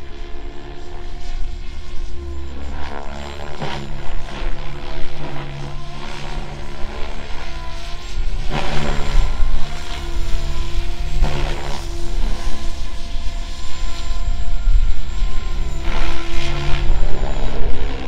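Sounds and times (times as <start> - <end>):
rc helicopter motor and rotor drone: 0.0 - 18.0.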